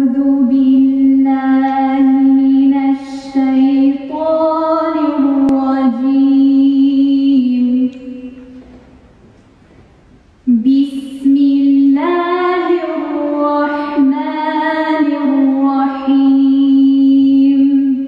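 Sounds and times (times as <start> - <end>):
woman chanting: 0.0 - 8.6, 10.5 - 18.0.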